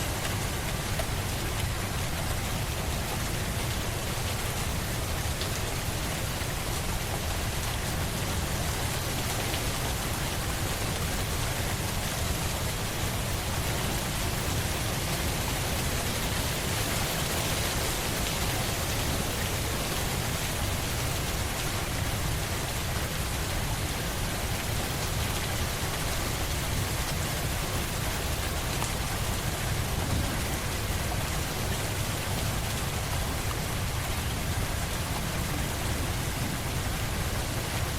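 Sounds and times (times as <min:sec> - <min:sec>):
rain pattering on a surface: 0:00.0 - 0:37.9.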